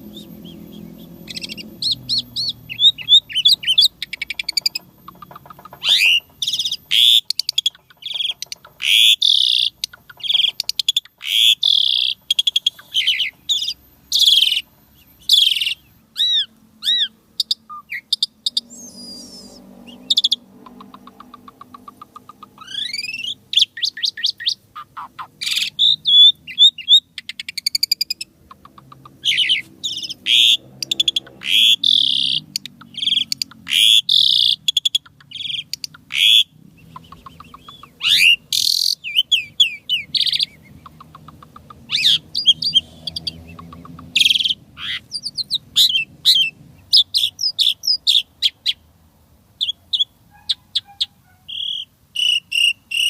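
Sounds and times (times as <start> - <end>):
starling singing: 0.0 - 48.9, 49.6 - 53.0.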